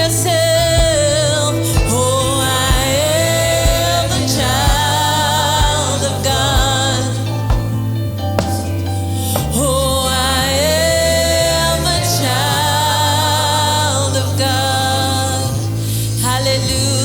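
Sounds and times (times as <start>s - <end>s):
person singing with vibrato: 0.0s - 8.2s, 9.1s - 17.0s
bass accompaniment: 0.0s - 17.0s.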